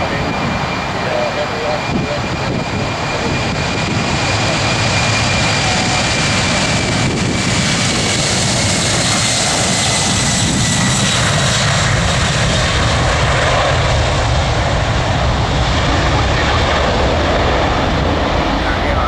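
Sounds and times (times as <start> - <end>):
jet engines roaring at take-off: 0.0 - 19.0.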